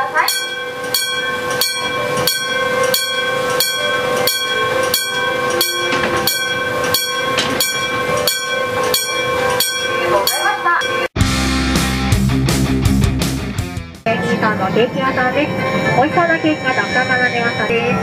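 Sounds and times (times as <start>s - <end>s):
railroad crossing bell ringing: 0.0s - 11.2s, 14.2s - 18.0s.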